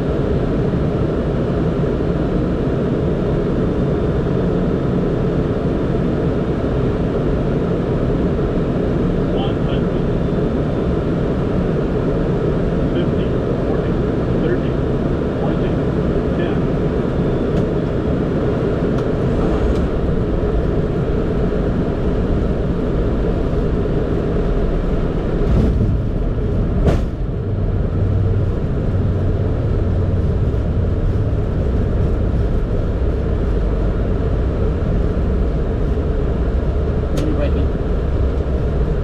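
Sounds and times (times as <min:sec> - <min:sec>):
airplane airflow and engine noise: 0:00.0 - 0:39.0
low hum: 0:00.0 - 0:39.0.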